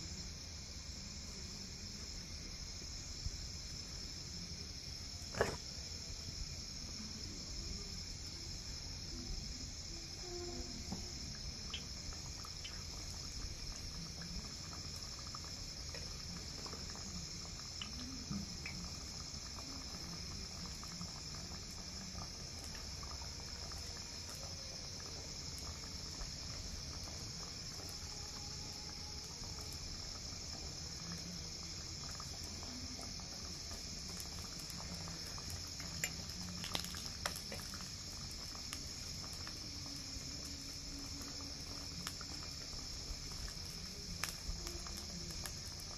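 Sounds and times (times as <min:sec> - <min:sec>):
insect chirring: 0:00.0 - 0:45.9.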